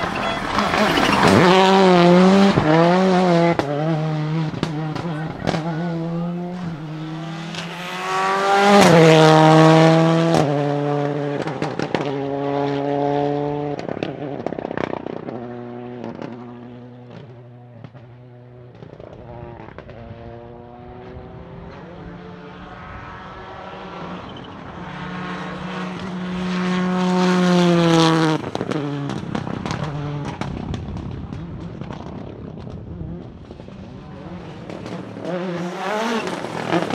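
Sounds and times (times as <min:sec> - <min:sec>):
rally car engine accelerating: 0:00.0 - 0:36.9.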